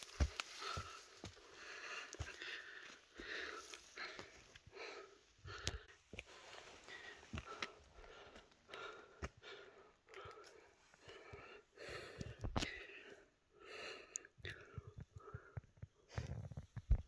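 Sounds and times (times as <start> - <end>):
person breathing hard: 0.0 - 16.4.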